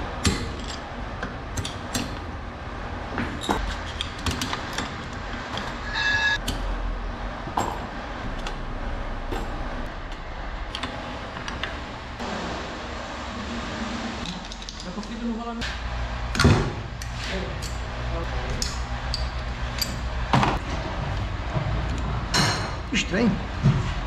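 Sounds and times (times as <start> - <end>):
workshop rumble: 0.0 - 24.0.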